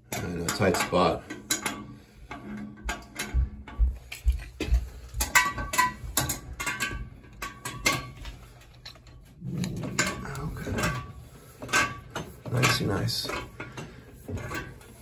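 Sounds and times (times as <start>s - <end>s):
metal tools clinking on pipe fittings: 0.0s - 15.0s.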